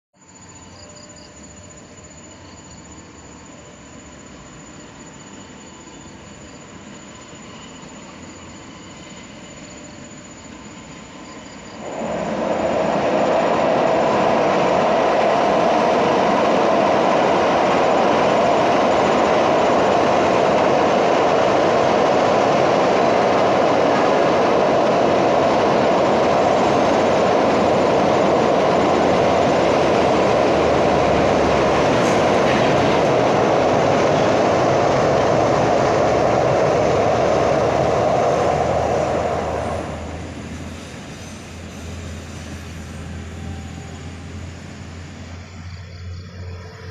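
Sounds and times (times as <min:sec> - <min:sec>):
train wheels rumbling on rails: 0:00.7 - 0:46.9.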